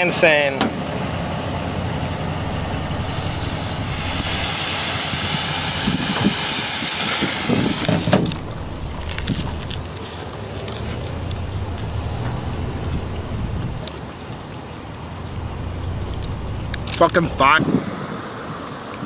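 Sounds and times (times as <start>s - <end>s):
vehicle passing: 1.0s - 6.0s, 7.6s - 17.9s.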